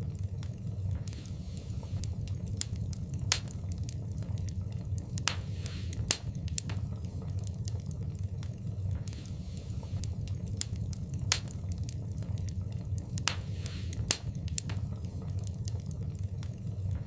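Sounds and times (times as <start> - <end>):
fire pops and snaps: 0.0 - 17.0
low rumble of flames: 0.0 - 17.0.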